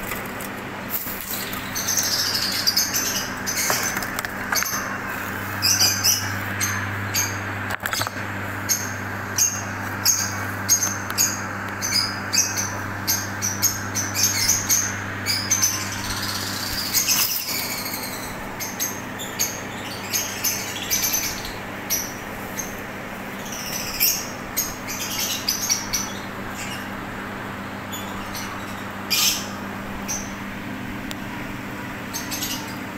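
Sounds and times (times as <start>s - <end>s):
birds chirping: 0.0s - 32.9s
steady low hum: 0.0s - 32.9s.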